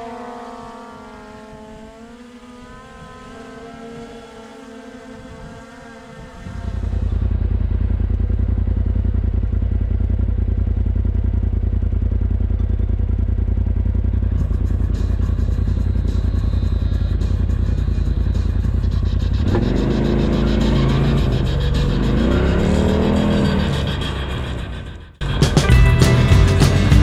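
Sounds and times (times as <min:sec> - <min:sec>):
engine pulsing rumble: 0:00.0 - 0:27.0.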